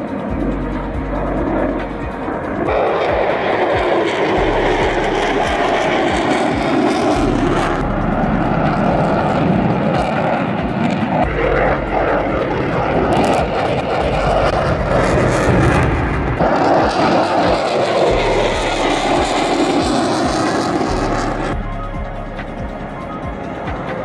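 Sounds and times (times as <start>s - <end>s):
airplane engine roar: 0.0s - 24.0s.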